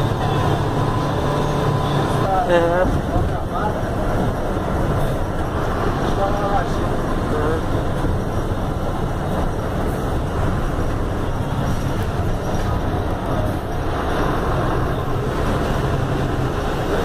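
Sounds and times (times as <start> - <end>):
diesel engine drone: 0.0 - 17.0
road and tyre rumble: 0.0 - 17.0.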